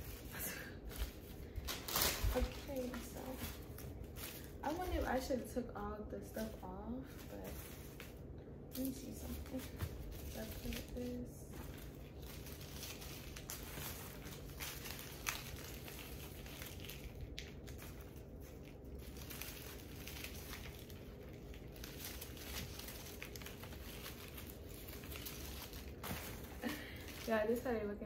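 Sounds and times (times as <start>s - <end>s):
artificial flowers crinkling and rustling: 0.0s - 28.0s.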